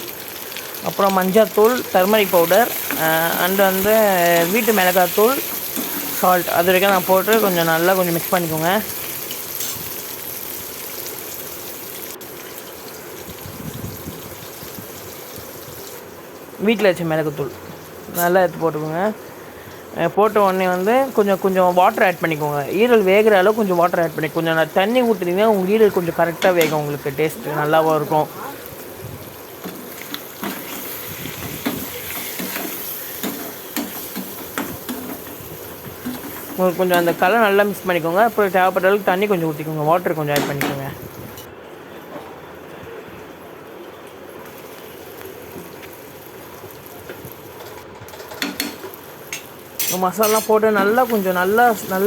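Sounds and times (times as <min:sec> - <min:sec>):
liver sizzling in oil: 0:00.0 - 0:41.5, 0:44.3 - 0:52.0.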